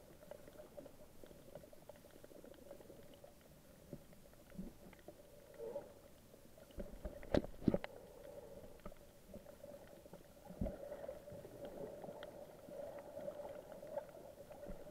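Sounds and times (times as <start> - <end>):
faint underwater hum: 0.0 - 14.9.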